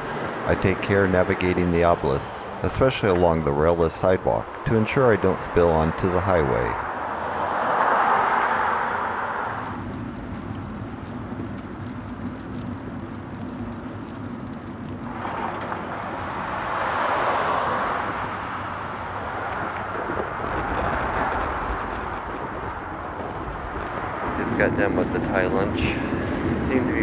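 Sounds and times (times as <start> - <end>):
cars passing by: 0.0 - 27.0
steady road noise: 0.0 - 27.0.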